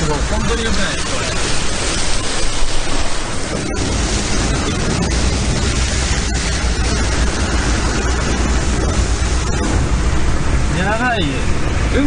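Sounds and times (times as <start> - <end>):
low rumble: 0.0 - 12.0
water churning against car: 0.0 - 12.0.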